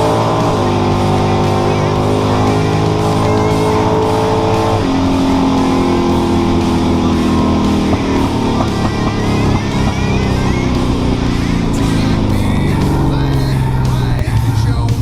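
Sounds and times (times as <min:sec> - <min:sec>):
electric guitar rock music: 0:00.0 - 0:15.0.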